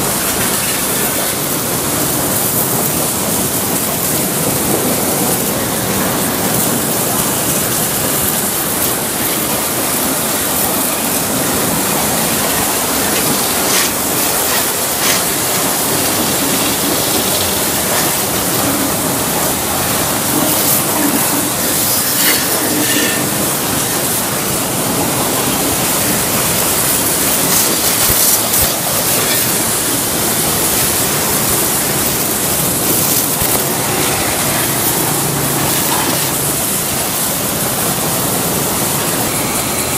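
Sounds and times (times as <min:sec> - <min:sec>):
pressure washer spraying: 0:00.0 - 0:39.9
water splashing against metal: 0:00.0 - 0:39.9.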